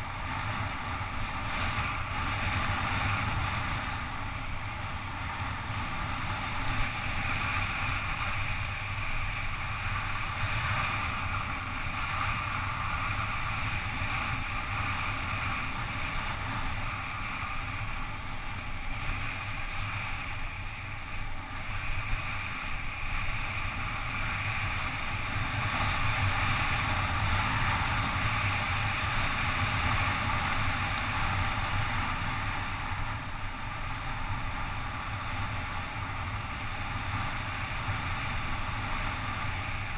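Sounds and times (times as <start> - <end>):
tyres humming on wet asphalt: 0.0 - 39.9
wind rushing over microphone: 0.0 - 39.9.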